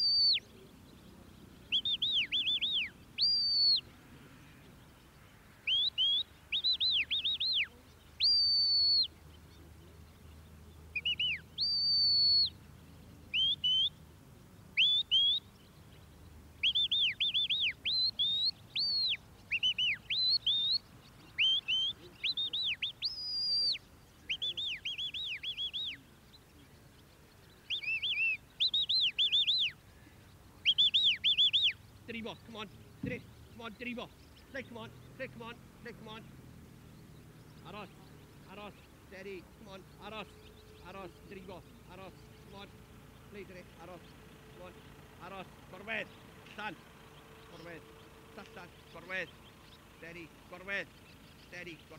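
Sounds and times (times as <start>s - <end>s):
high whistled calls: 0.0s - 14.1s, 14.7s - 51.9s.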